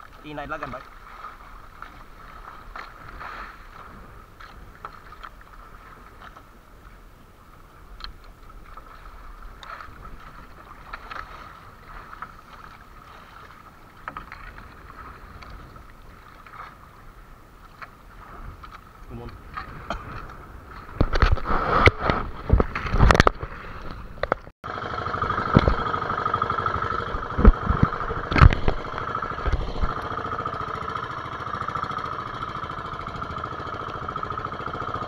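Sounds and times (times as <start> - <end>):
sea water splashing against boat hull: 0.0 - 24.5, 25.1 - 35.0.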